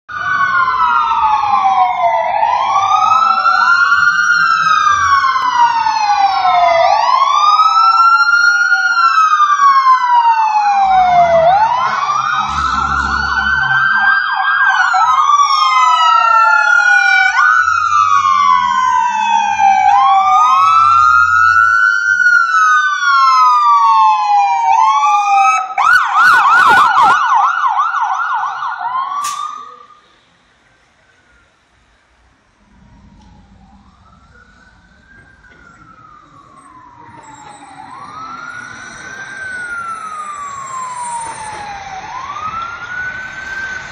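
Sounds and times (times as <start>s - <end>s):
fire truck sirens wailing: 0.0s - 43.9s
fast siren yelp: 0.1s - 30.0s, 32.6s - 43.9s.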